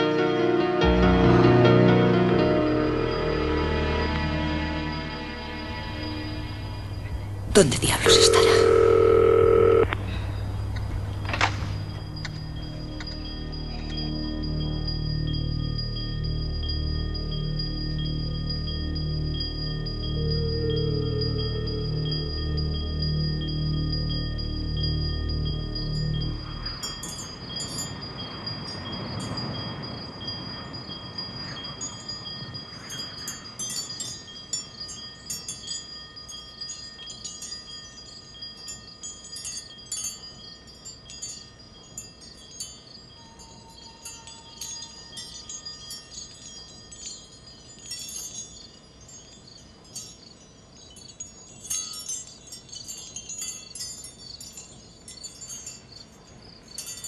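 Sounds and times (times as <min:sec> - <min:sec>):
light metallic chimes tinkling: 0:05.1 - 0:57.0
faint high ringing tones: 0:05.6 - 0:57.0.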